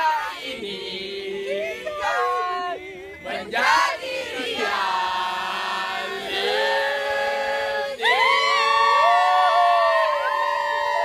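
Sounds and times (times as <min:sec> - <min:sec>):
group singing long notes: 0:00.0 - 0:11.0.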